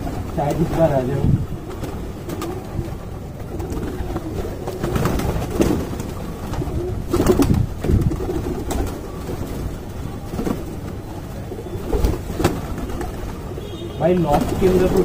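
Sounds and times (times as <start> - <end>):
pigeons cooing: 0.0 - 15.0
wings flapping: 0.0 - 15.0.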